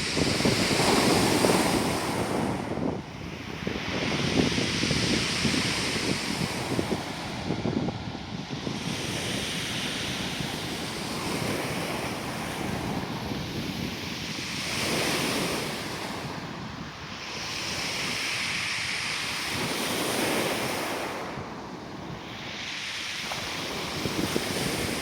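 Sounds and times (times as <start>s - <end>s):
waves washing over pebbles: 0.0s - 25.0s.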